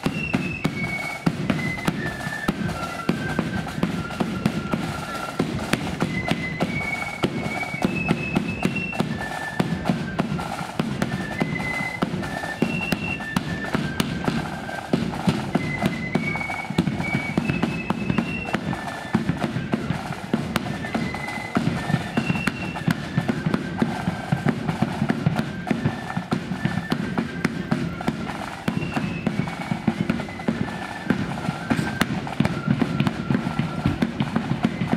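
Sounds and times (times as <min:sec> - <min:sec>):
flute melody: 0:00.0 - 0:34.9
snare drum strokes: 0:00.0 - 0:34.9.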